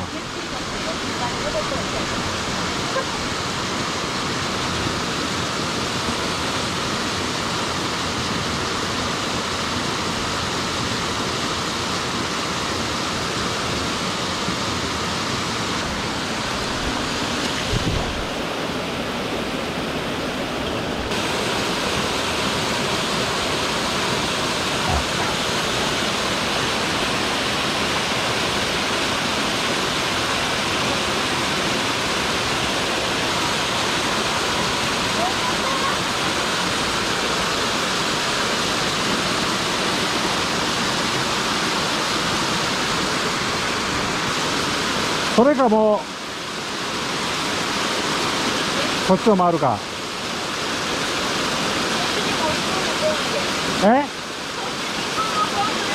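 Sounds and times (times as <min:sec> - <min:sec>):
waterfall rushing over rock: 0:00.0 - 0:55.9.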